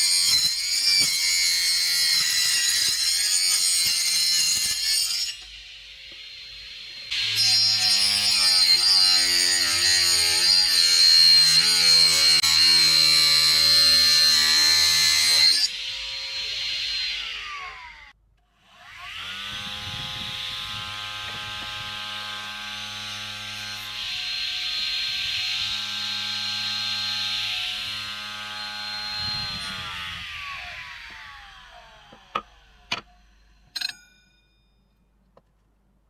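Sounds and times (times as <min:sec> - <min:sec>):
electric saw cutting wood: 0:00.0 - 0:33.8.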